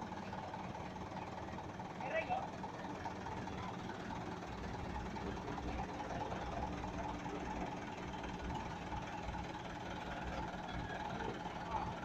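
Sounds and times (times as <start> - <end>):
truck engine rumbling at low speed: 0.0 - 12.0.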